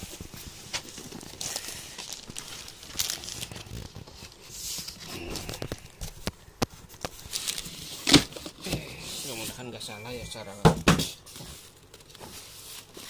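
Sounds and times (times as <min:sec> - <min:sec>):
cardboard and styrofoam scraping: 0:00.0 - 0:06.0, 0:07.2 - 0:10.5, 0:11.2 - 0:13.0
plastic wrapping crinkling: 0:00.0 - 0:10.3, 0:11.2 - 0:13.0.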